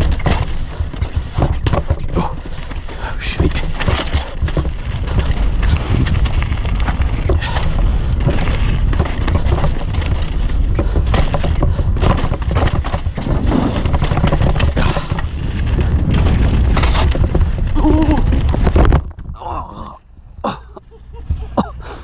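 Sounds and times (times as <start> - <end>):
bike rattling and knocking: 0.0 - 19.4
tyres crunching over gravel: 0.0 - 19.4
wind rumbling on microphone: 0.0 - 21.7.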